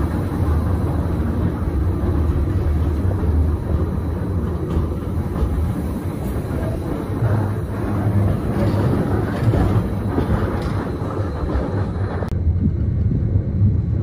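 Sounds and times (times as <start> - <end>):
dull low rumble: 0.0 - 14.0
train rumbling on track: 0.0 - 14.0.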